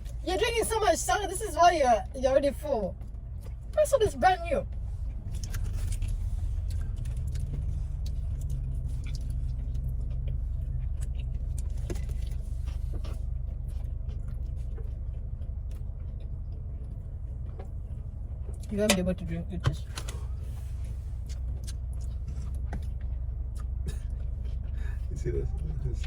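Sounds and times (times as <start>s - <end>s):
low rumble inside car: 0.0s - 26.0s.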